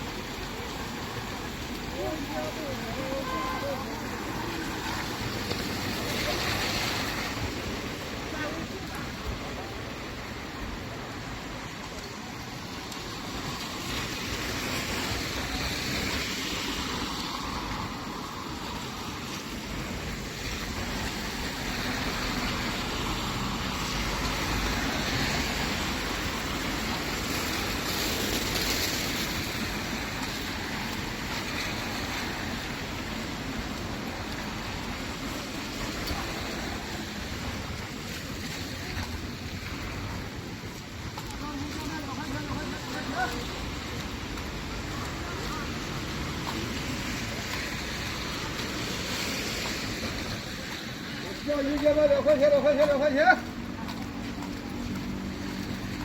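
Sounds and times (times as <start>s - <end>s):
rain: 0.0s - 56.0s
traffic on wet road: 0.0s - 56.0s.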